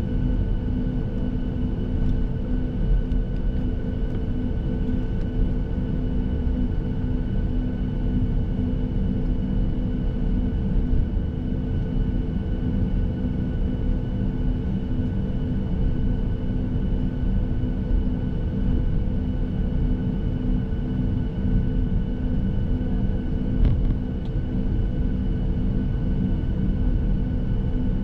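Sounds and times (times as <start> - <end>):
faint engine whine: 0.0 - 28.0
jet engine rumble in cabin: 0.0 - 28.0.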